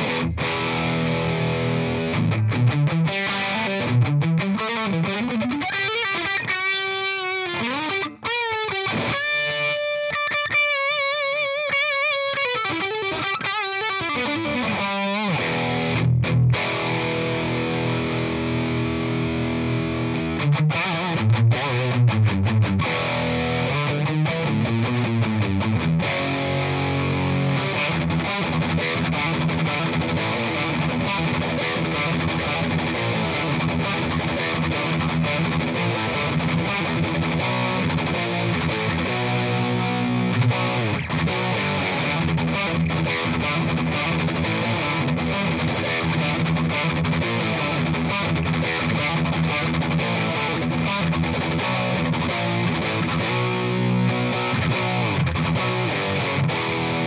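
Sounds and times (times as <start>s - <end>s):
distorted electric guitar: 0.0s - 57.0s.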